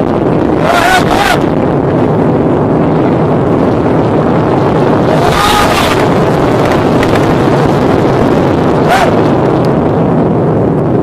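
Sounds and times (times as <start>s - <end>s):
roar of fire and explosions: 0.0s - 11.0s.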